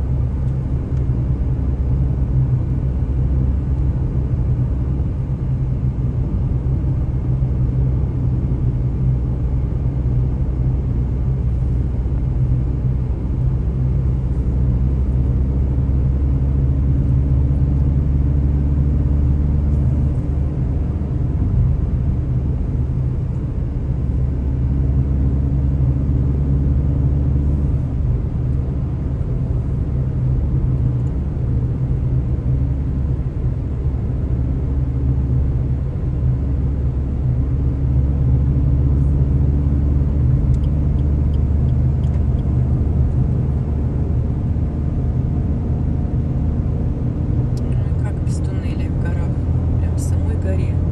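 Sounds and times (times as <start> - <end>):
car engine rumble: 0.0 - 50.9
road noise: 0.0 - 50.9.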